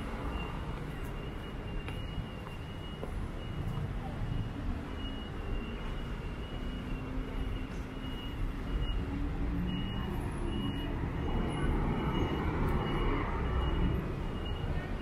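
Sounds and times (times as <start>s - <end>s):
crossing signal beeps: 0.0s - 15.0s
traffic running past: 0.0s - 15.0s.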